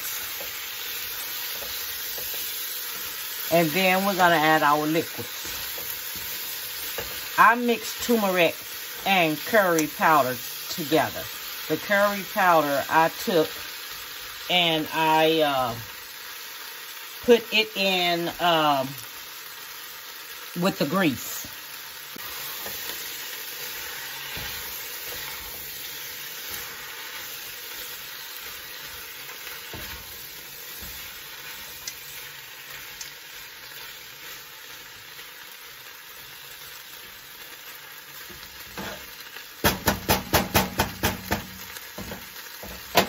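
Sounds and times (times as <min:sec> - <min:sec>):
chicken feet sizzling in oil: 0:00.0 - 0:43.0.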